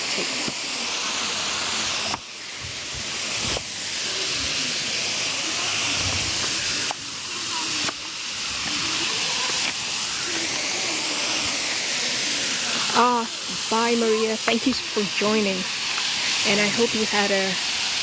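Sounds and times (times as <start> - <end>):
waterfall roar: 0.0 - 18.0.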